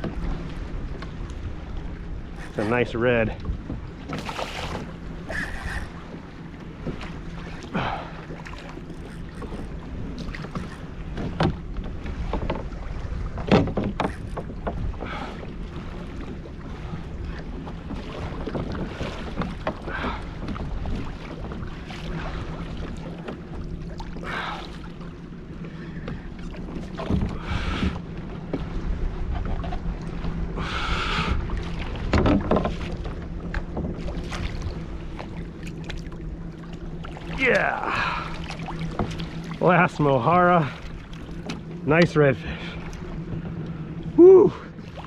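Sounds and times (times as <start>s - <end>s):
water and wind noise: 0.0s - 45.0s
water splashing: 2.3s - 28.0s, 34.0s - 45.0s.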